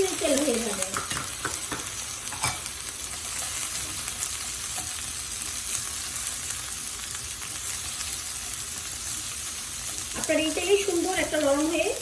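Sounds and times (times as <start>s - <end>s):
vegetables frying in hot oil: 0.0s - 12.0s.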